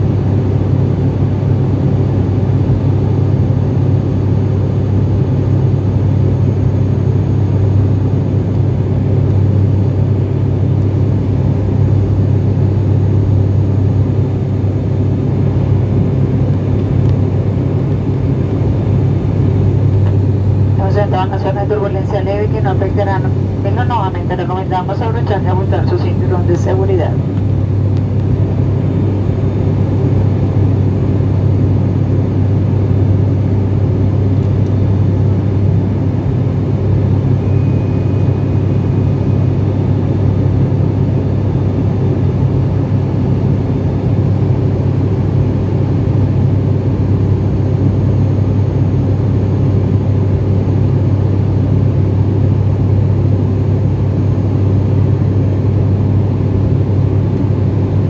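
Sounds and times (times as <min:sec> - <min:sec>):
airliner engine drone in cabin: 0:00.0 - 0:58.0.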